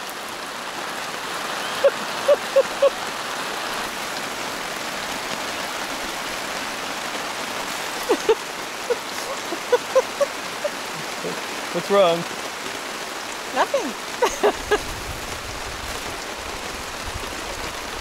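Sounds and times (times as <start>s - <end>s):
heavy rain on a tarp: 0.0s - 18.0s.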